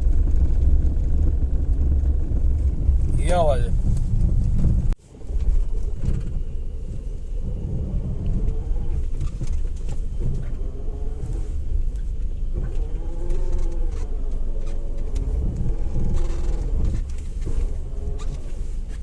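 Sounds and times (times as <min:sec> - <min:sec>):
car rumbling at low speed: 0:00.0 - 0:19.0
rattling vibration: 0:00.0 - 0:19.0.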